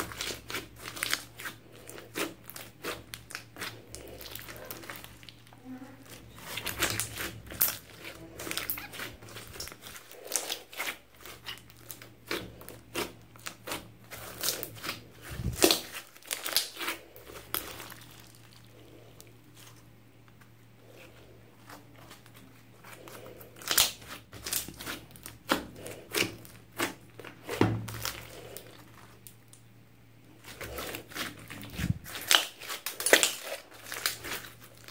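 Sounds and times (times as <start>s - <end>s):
slime squelching and popping: 0.0s - 20.4s, 21.6s - 29.7s, 30.4s - 34.9s.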